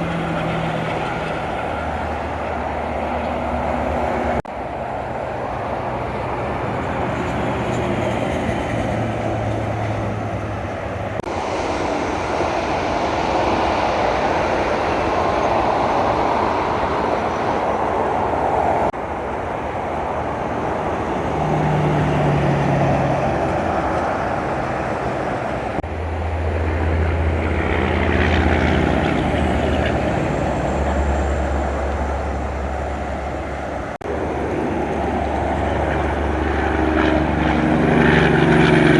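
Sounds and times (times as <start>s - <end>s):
diesel engines droning: 0.0s - 38.9s
tyre noise of trucks: 0.0s - 38.9s.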